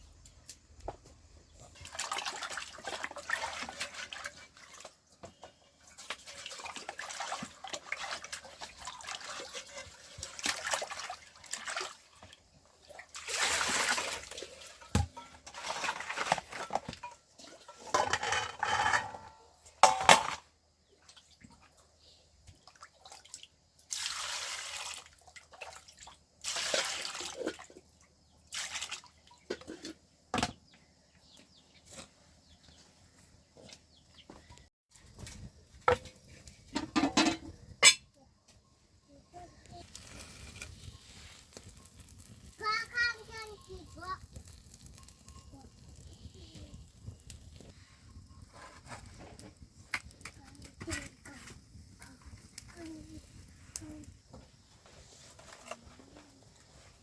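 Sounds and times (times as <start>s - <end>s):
water splashing and trickling: 1.5s - 30.5s, 39.4s - 57.0s.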